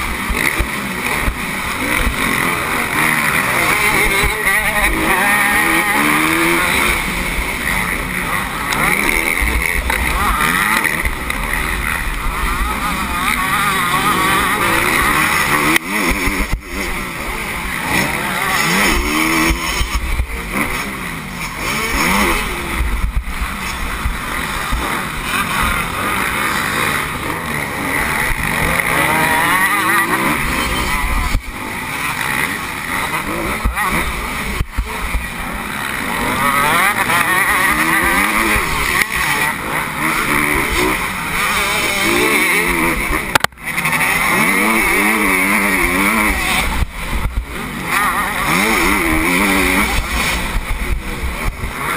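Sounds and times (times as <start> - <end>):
motocross engine revving: 0.0 - 51.9.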